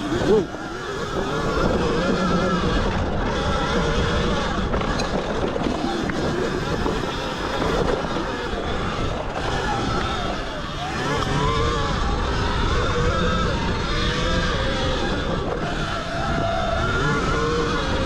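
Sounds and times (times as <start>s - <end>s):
faint electric motor whine: 0.0s - 18.0s
wind rushing over microphone: 0.0s - 18.0s.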